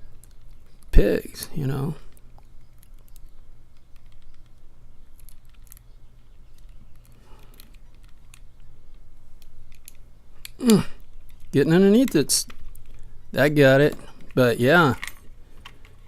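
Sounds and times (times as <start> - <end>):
lock pick clicking and scraping: 2.0 - 13.0, 13.8 - 16.0.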